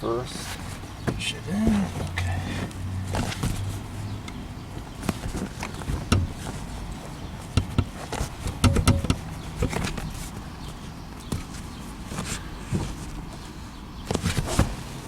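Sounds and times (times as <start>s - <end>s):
knocks and thumps of seat cushion: 0.5s - 3.8s, 4.7s - 13.2s, 14.0s - 15.0s.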